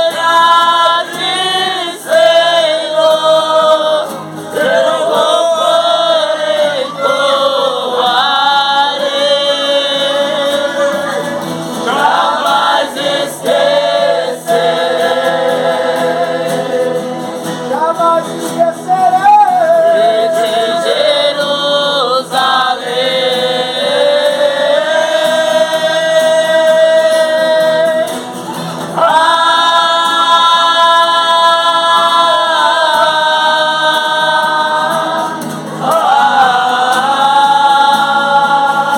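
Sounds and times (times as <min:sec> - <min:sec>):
gospel-style singing: 0:00.0 - 0:38.9.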